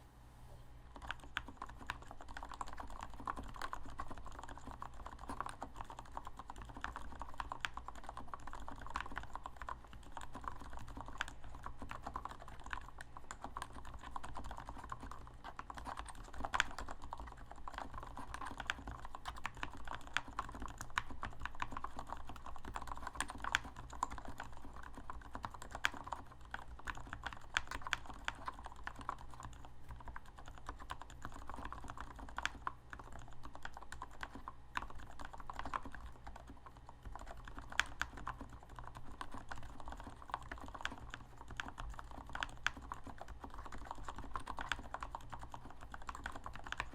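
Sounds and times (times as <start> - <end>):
fast typing on mechanical keyboard: 0.9 - 46.9.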